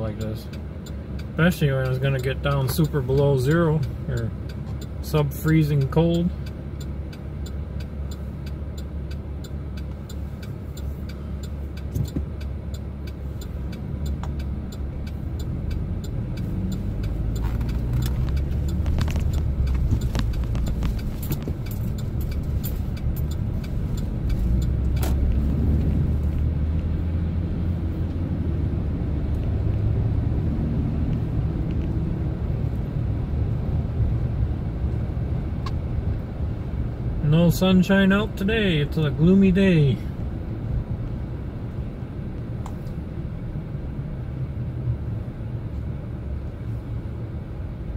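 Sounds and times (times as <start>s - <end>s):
truck engine and road rumble: 0.0s - 47.9s.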